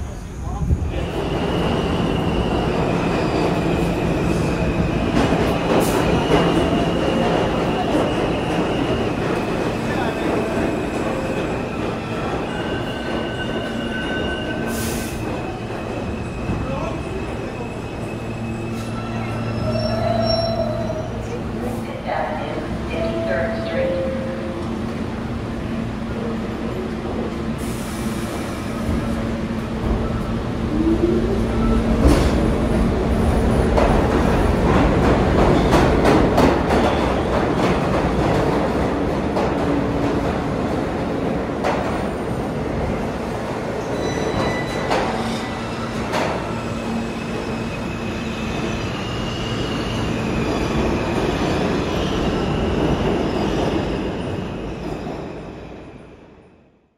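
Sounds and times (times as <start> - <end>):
subway train passing: 0.0 - 56.9.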